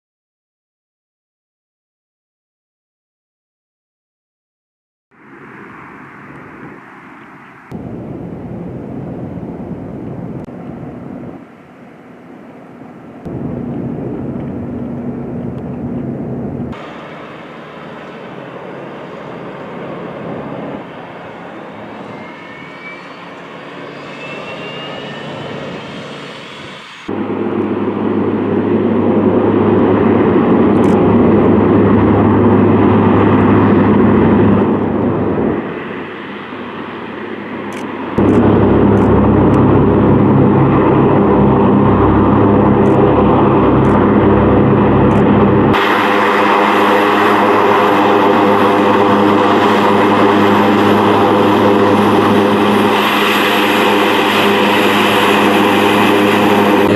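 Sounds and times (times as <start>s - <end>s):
propeller engine drone: 5.1s - 56.9s.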